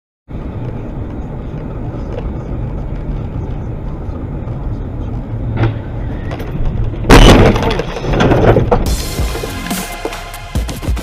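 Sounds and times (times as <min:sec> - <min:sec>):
car engine and road rumble: 0:00.3 - 0:11.0.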